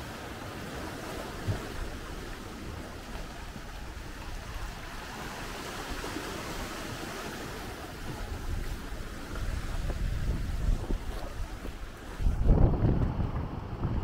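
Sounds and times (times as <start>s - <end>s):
sea waves washing on beach: 0.0s - 14.0s
wind rumble on microphone: 0.0s - 14.0s.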